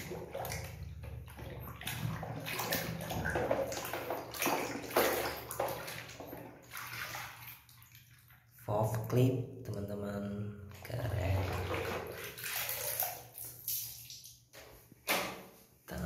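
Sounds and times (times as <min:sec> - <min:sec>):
soapy water sloshing in a basin: 0:00.0 - 0:09.8, 0:10.7 - 0:15.7.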